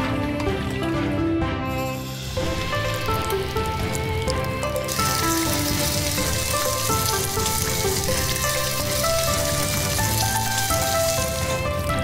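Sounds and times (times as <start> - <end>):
background music: 0.0 - 12.0
chicken sizzling in frying pan: 2.2 - 12.0.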